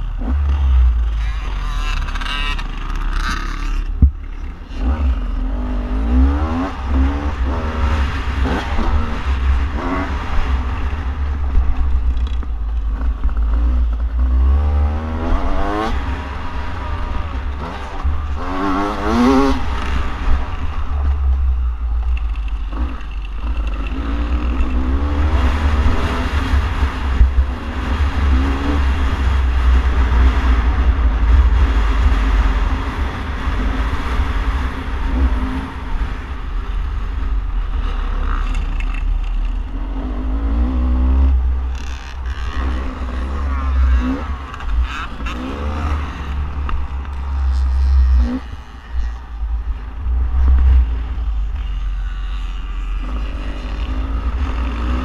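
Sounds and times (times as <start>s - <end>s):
dirt bike engine revving: 0.0s - 36.3s, 37.7s - 55.0s
wind rumble on microphone: 0.0s - 55.0s.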